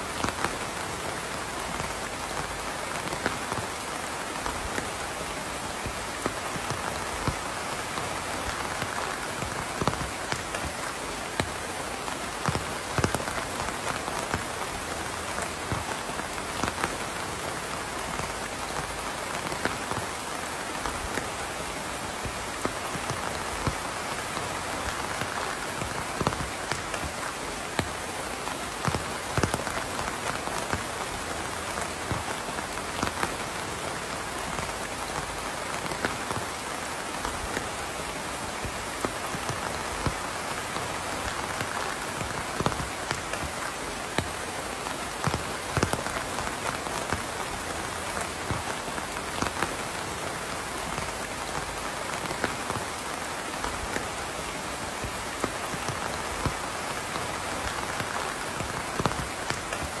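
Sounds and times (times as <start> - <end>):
heavy raindrops plinking: 0.0 - 60.0
steady rain hiss: 0.0 - 60.0.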